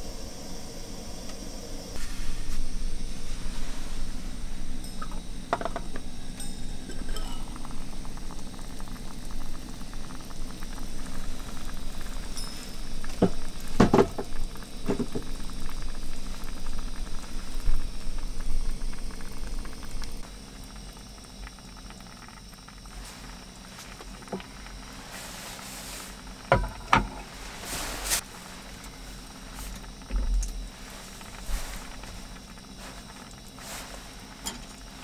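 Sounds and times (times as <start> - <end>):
water boiling and bubbling: 0.0 - 35.0.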